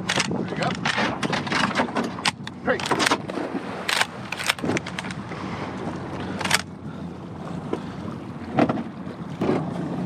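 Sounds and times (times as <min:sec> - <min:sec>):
wind and water around a boat: 0:00.0 - 0:10.0.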